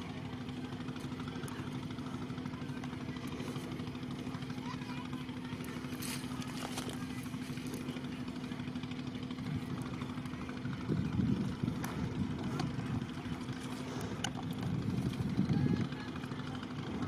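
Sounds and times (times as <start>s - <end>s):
small engine droning: 0.0s - 17.0s.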